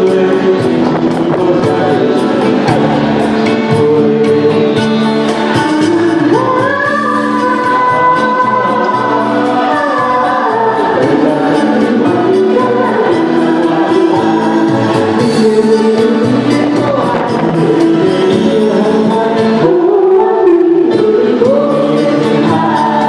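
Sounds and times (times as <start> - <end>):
pop song with sung vocal: 0.0 - 23.0.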